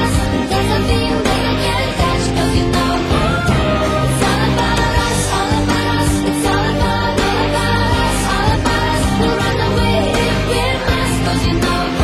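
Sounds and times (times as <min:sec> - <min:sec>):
song playing: 0:00.0 - 0:12.0.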